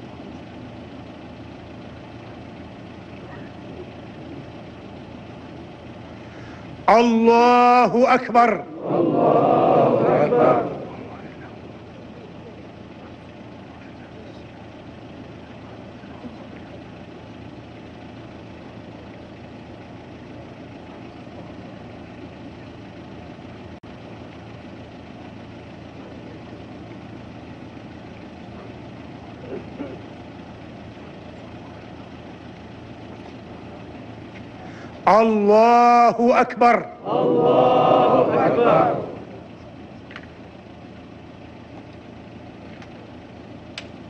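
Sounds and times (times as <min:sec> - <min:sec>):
low outdoor background rumble: 0:00.0 - 0:44.0.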